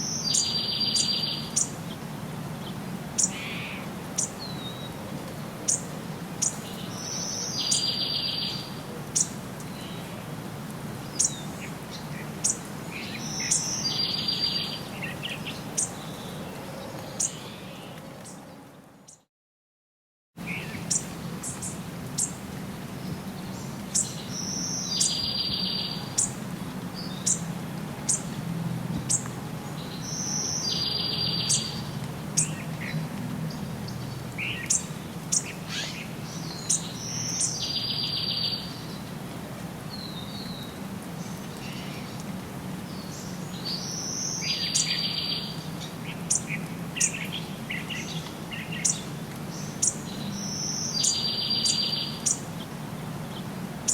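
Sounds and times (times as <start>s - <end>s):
songbirds chirping: 0.0s - 19.3s, 20.4s - 53.9s.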